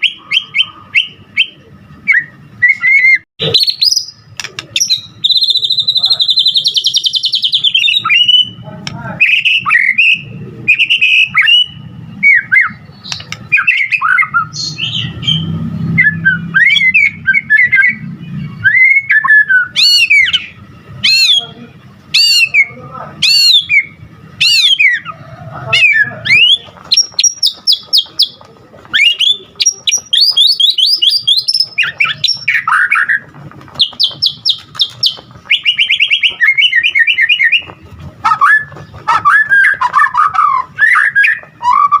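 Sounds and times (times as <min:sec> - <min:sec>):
songbird singing: 0:00.0 - 0:42.0.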